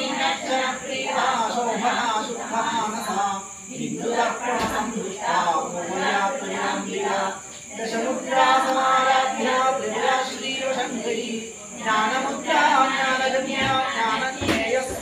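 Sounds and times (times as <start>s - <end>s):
priest chanting mantras: 0.0s - 15.0s.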